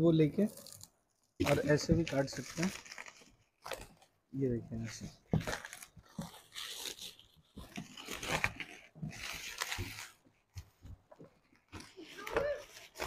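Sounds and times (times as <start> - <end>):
plastic wrap crinkling and tearing: 0.3 - 4.2, 4.8 - 13.0.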